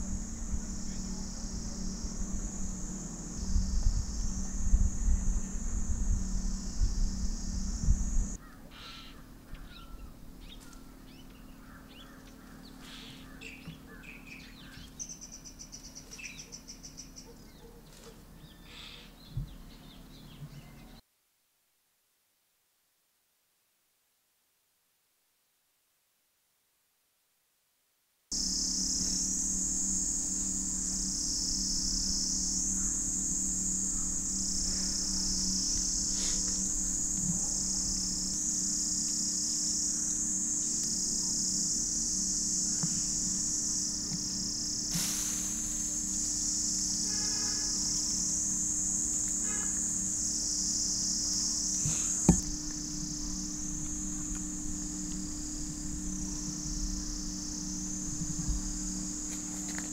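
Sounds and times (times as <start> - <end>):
insect chorus buzzing: 0.0 - 21.0, 28.3 - 59.9
low steady hum: 0.0 - 21.0, 28.3 - 59.9.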